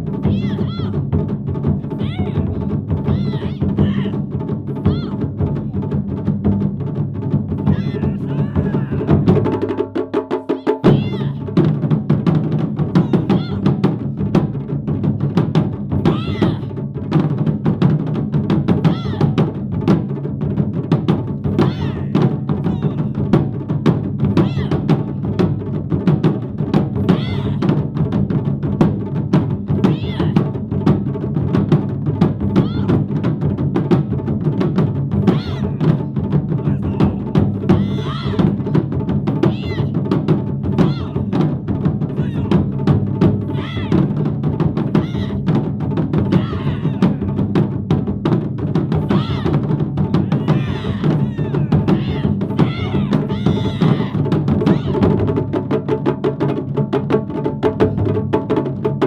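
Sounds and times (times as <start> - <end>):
taiko drums striking: 0.0 - 59.0.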